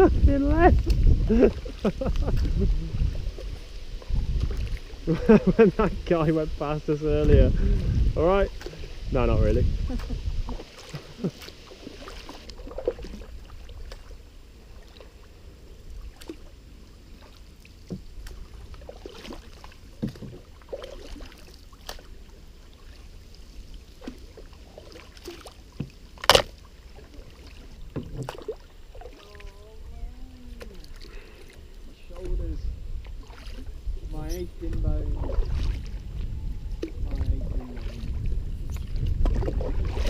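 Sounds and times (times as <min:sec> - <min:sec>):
steady low rumble: 0:00.0 - 0:20.7, 0:28.6 - 0:40.0
paddle strokes splashing: 0:00.0 - 0:40.0.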